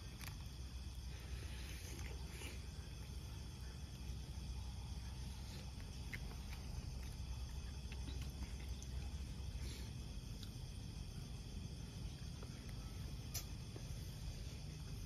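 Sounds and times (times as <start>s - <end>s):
crickets chirping: 0.0s - 15.0s
low background rumble: 0.0s - 15.0s.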